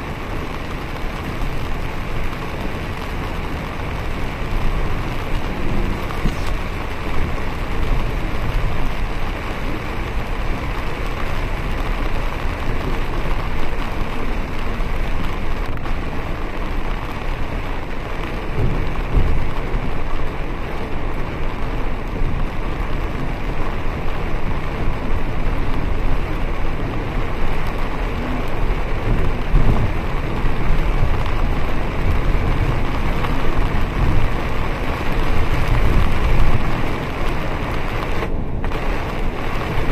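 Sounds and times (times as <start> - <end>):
bus engine rumble: 0.0 - 39.9
heavy rain on a bus: 0.0 - 39.9
tyres on a wet road: 0.0 - 39.9.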